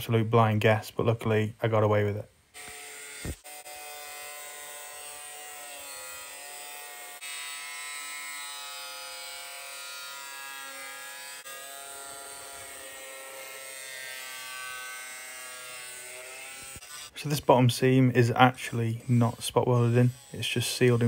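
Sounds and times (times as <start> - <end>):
angle grinder cutting sheet metal: 2.6 - 17.5, 18.6 - 21.0.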